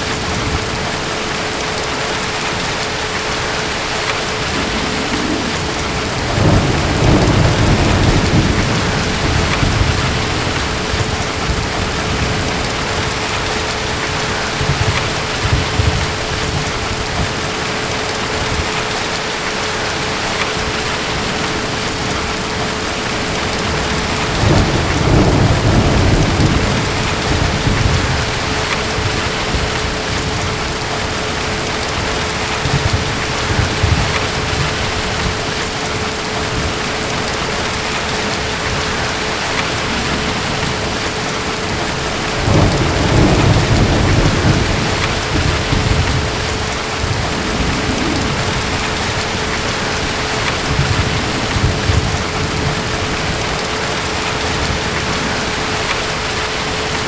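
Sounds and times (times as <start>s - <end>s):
distant thunder rumbling: 0.0s - 57.0s
heavy rain: 0.0s - 57.0s.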